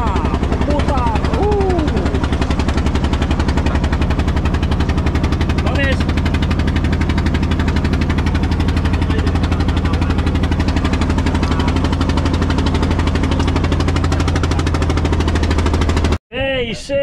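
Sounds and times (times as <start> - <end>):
boat engine running: 0.0 - 16.2.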